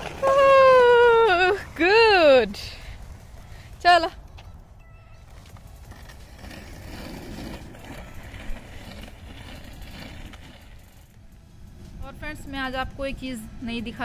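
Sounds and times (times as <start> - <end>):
scooter rolling on concrete: 0.0 - 14.0.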